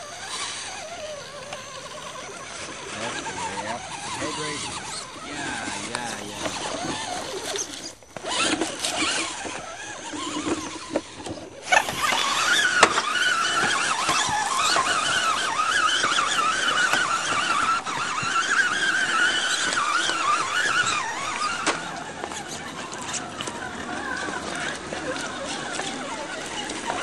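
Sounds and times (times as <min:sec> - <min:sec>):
toy truck electric motor whine: 0:00.0 - 0:27.0.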